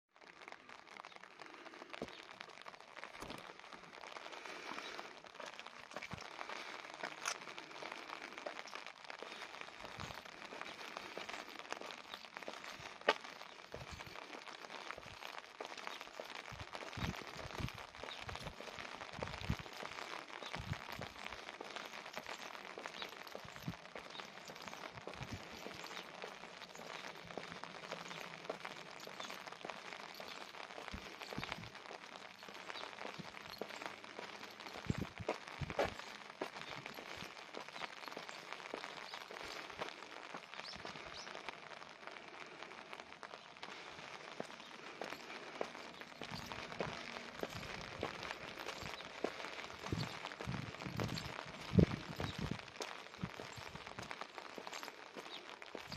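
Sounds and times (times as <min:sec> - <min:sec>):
light rain falling: 0:00.1 - 0:55.9.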